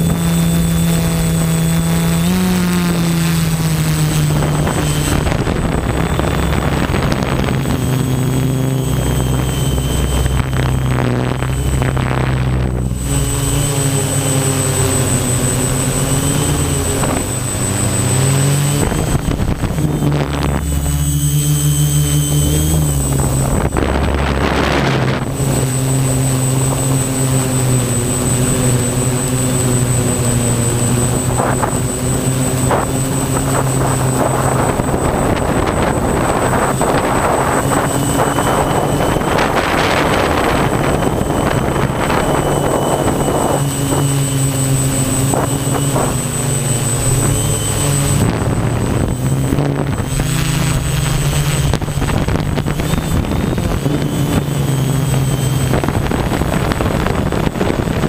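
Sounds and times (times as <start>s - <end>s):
drone motors buzzing: 0.0s - 58.0s.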